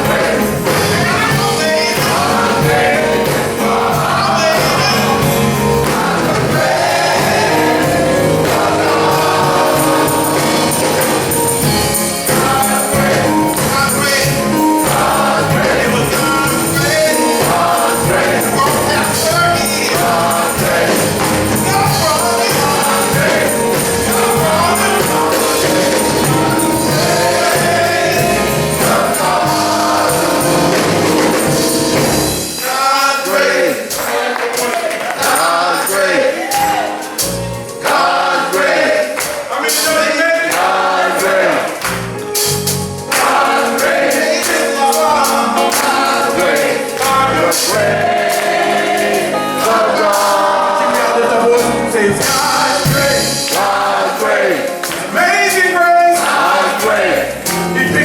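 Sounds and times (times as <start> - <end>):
band accompaniment: 0.0 - 58.0
gospel choir singing: 0.0 - 58.0.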